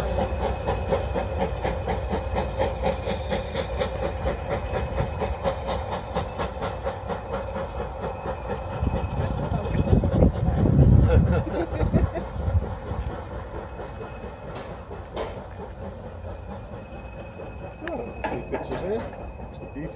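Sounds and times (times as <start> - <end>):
engine rumble: 0.0 - 19.9
steam locomotive exhaust beats: 0.0 - 19.9.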